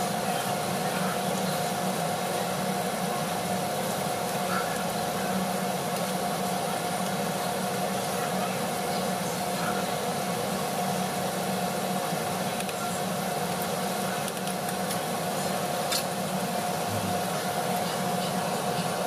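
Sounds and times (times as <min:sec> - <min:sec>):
mechanical hum and hiss: 0:00.0 - 0:19.0.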